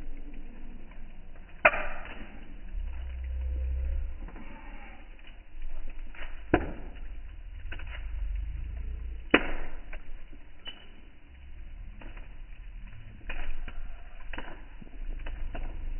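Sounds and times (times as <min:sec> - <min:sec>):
campfire crackling: 0:00.0 - 0:15.9
low rumble: 0:00.0 - 0:15.9.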